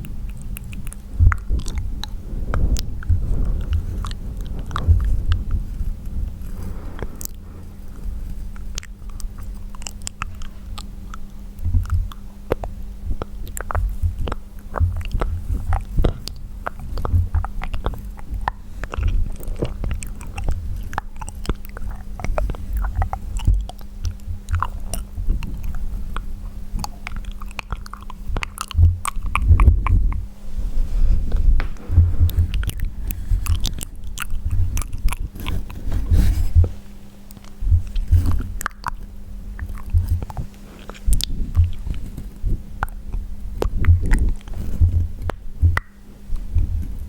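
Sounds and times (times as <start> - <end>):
wet mouth clicks and smacks: 8.0 - 30.3, 31.6 - 47.0.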